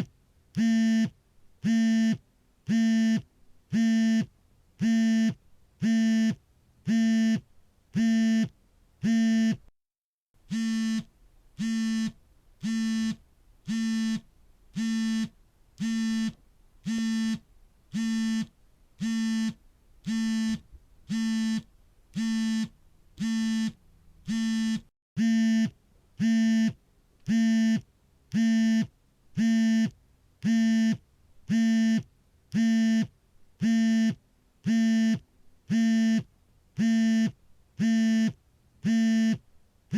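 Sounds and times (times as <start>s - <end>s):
smartphone vibrating buzzes: 0.0s - 7.4s, 8.0s - 9.7s, 10.4s - 39.4s.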